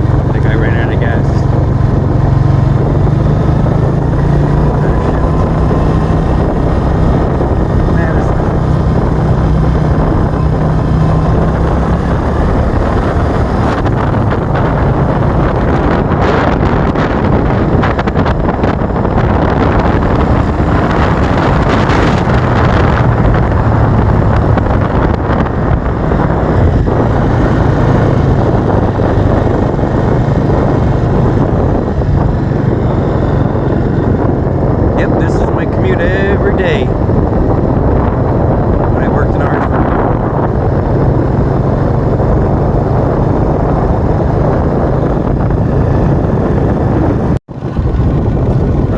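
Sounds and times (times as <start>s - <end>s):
motorcycle engine running: 0.0s - 48.9s
wind buffeting on microphone: 0.0s - 48.9s.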